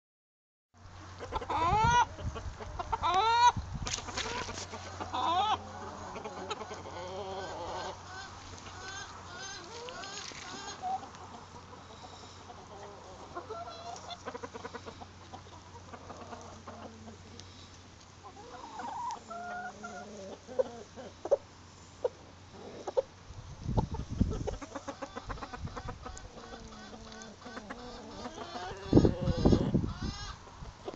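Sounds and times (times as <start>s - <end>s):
chickens clucking and calling: 0.9s - 30.9s.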